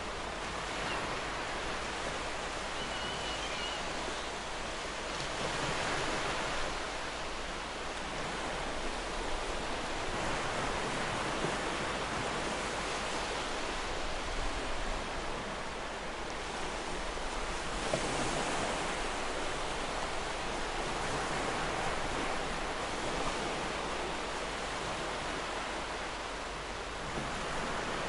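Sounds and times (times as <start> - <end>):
ocean waves breaking on beach: 0.0 - 28.0.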